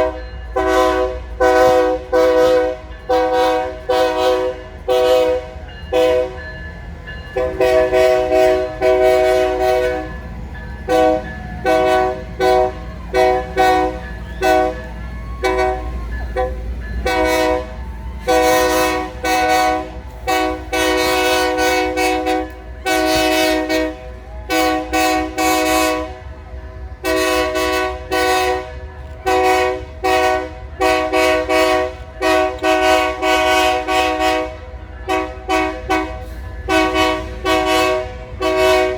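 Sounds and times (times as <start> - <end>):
locomotive air horn blasts: 0.0 - 6.5, 7.3 - 10.2, 10.8 - 38.9
low train rumble: 0.0 - 38.9.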